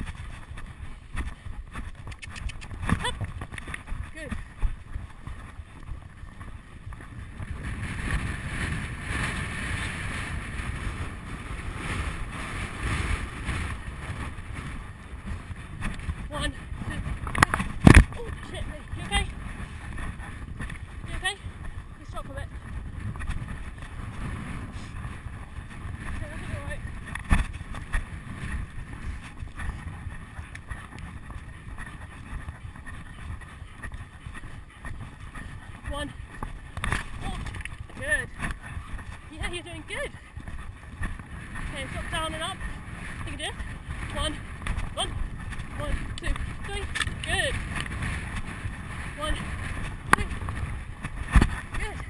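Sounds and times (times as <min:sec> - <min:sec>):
hoofbeats on grass: 0:00.0 - 0:52.0
wind buffeting microphone: 0:00.0 - 0:52.0.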